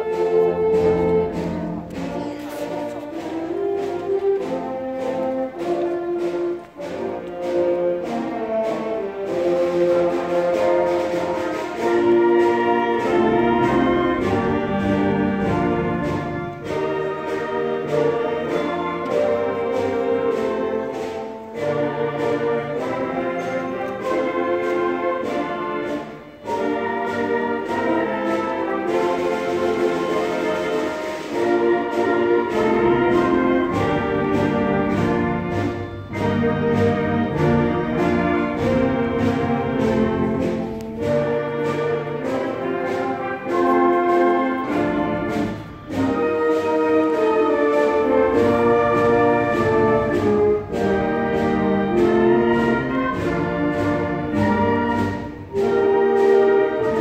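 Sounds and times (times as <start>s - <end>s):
orchestral music with brass: 0.0s - 57.0s.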